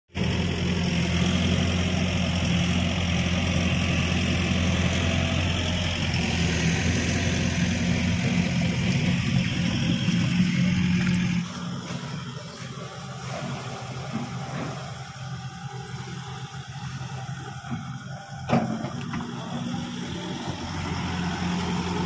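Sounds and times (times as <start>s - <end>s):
excavator diesel engine running: 0.1s - 22.0s.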